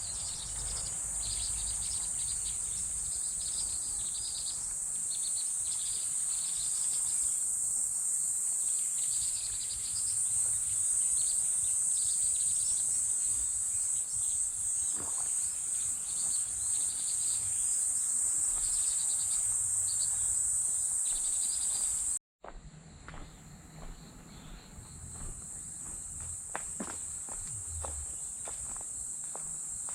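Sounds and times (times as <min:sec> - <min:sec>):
insects pulsing chirps: 0:00.0 - 0:22.2, 0:23.1 - 0:29.9.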